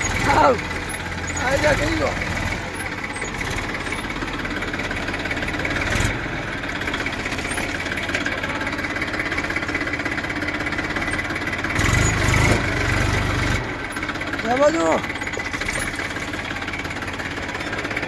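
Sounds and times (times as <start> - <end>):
tractor diesel engine chugging: 0.0 - 18.0.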